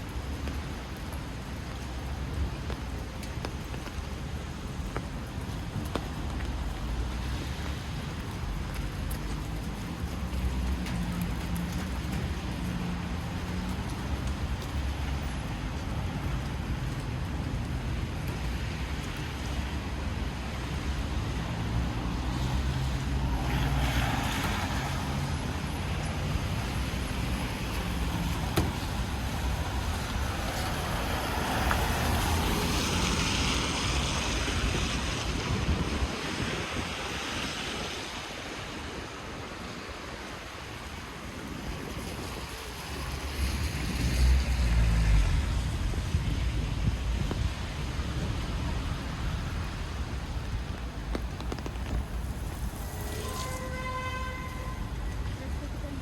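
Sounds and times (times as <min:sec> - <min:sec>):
traffic engine rumble: 0:00.0 - 0:56.0
tyres hissing on wet road: 0:00.0 - 0:56.0.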